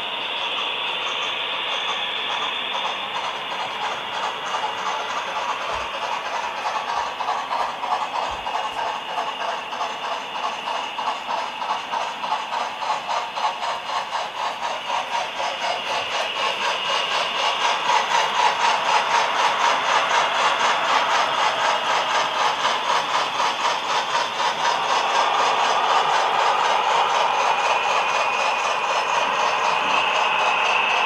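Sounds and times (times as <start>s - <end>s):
faint locomotive motor whine: 0.0s - 31.0s
model train wheels clicking: 0.0s - 31.0s.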